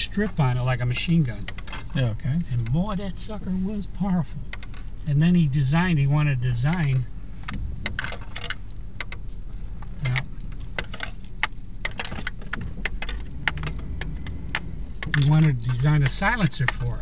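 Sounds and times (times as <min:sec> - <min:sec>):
car engine and road rumble: 0:00.0 - 0:17.0
light clicks and rattles in cabin: 0:00.0 - 0:17.0.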